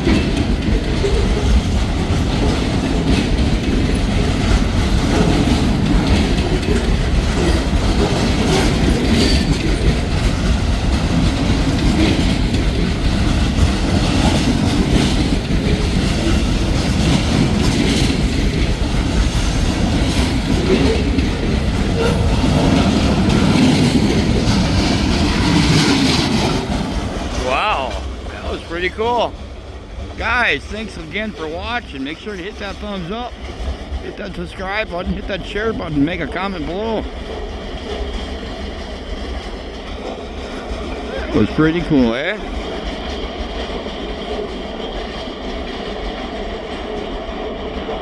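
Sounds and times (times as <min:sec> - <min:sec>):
freight train rumbling past: 0:00.0 - 0:48.0
wheels clacking over rail joints: 0:00.0 - 0:48.0.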